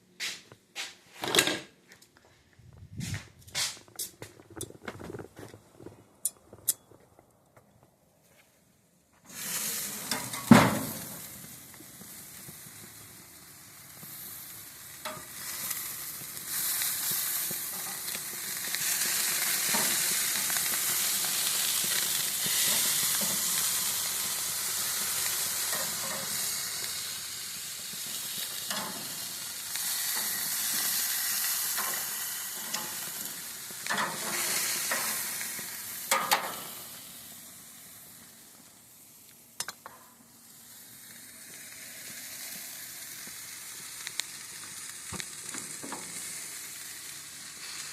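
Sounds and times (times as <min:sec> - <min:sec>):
chicken sizzling on a grill: 0:09.2 - 0:47.9.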